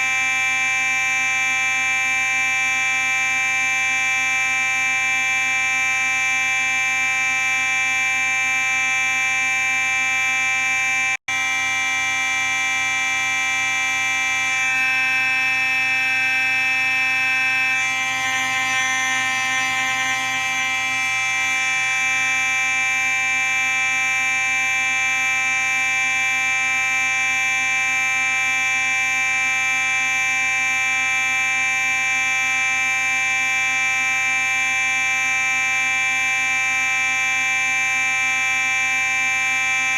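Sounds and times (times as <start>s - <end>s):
fire alarm buzzing: 0.0s - 39.9s.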